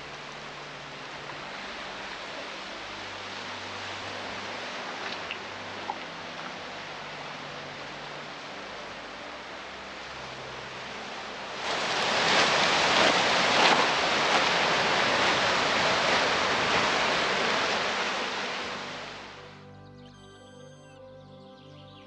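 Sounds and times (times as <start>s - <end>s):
waves washing on shore: 0.0s - 19.4s.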